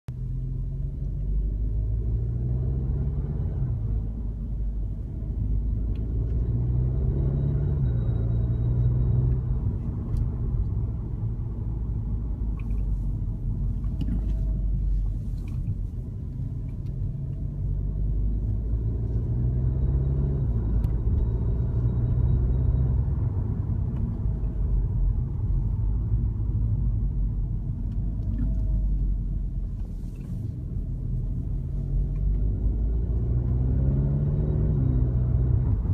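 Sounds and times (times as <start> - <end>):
car engine and road rumble: 0.1 - 35.9.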